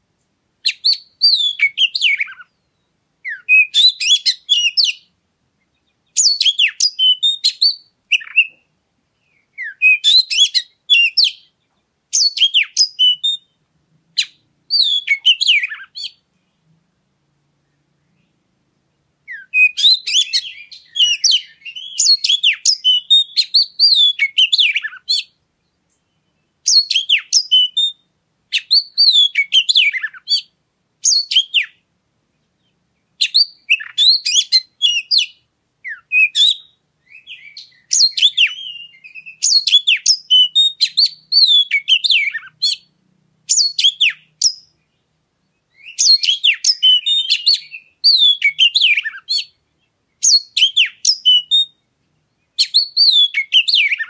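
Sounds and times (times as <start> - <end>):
bird singing whistles and trills: 0.6 - 13.6, 14.2 - 16.2, 19.2 - 31.8, 32.6 - 54.0.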